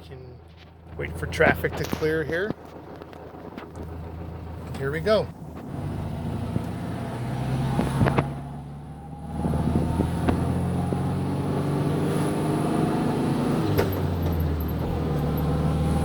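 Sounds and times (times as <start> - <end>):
car engine pulling away: 2.6 - 16.0.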